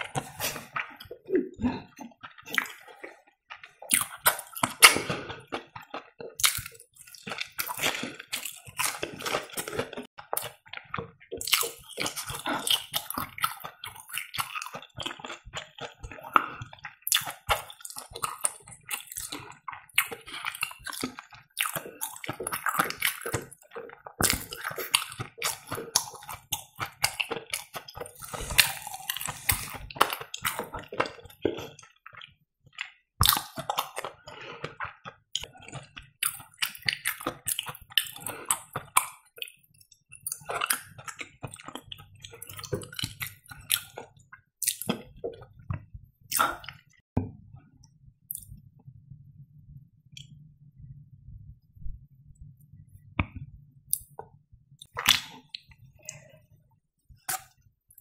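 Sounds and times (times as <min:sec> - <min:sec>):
chewing with wet mouth sounds: 0:00.0 - 0:47.0, 0:48.3 - 0:48.6, 0:53.2 - 0:56.4.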